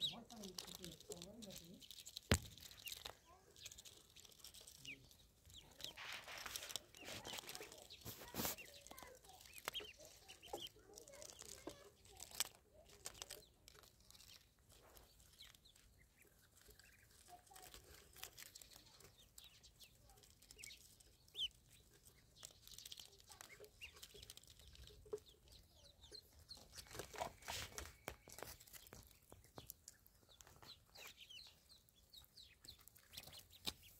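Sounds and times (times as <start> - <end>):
ducklings peeping: 0.0 - 33.9
pecking clicks and rustles: 0.0 - 33.9.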